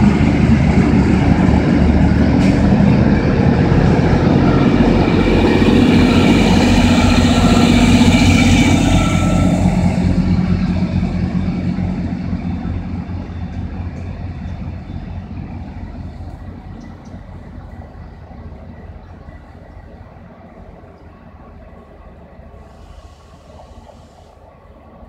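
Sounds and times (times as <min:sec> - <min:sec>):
diesel train engine drone: 0:00.0 - 0:25.0
train wheels rumbling on rails: 0:00.0 - 0:25.0.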